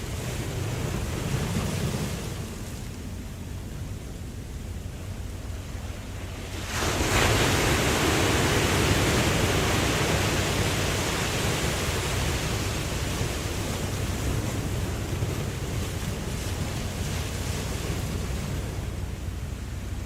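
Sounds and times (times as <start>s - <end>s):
low rumble of sea: 0.0s - 20.0s
ocean wave breaking: 0.0s - 20.0s
wind: 0.0s - 20.0s.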